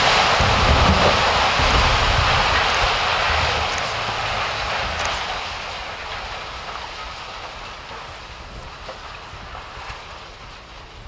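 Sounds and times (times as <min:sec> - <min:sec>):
building collapse rumble: 0:00.0 - 0:11.0.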